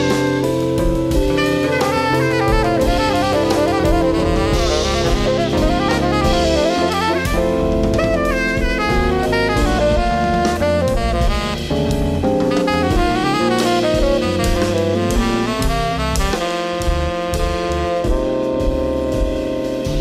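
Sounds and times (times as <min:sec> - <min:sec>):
live jazz band playing: 0:00.0 - 0:20.0
saxophone melody: 0:00.0 - 0:20.0.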